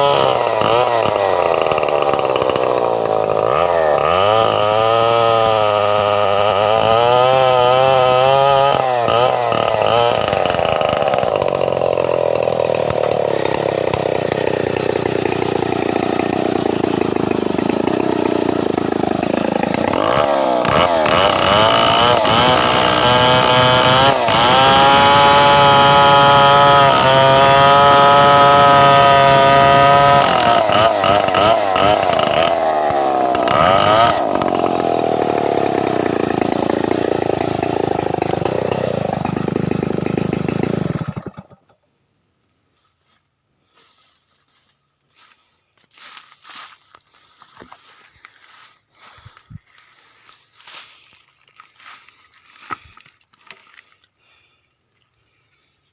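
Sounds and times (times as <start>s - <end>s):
chainsaw cutting log: 0.0s - 41.8s, 45.9s - 54.6s.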